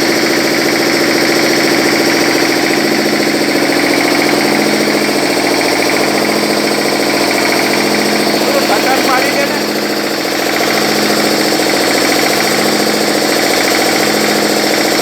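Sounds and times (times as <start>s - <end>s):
diesel engine clattering: 0.0s - 15.0s.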